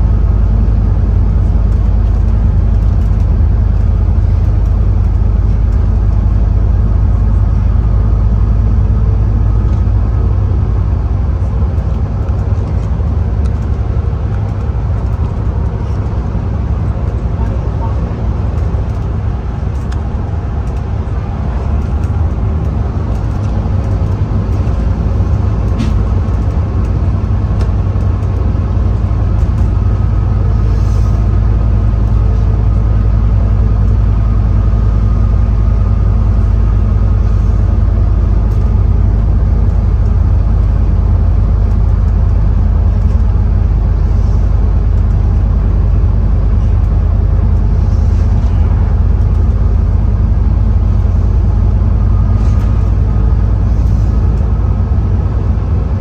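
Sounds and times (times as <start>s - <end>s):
bus diesel engine drone: 0.0s - 56.0s
road noise: 0.0s - 56.0s.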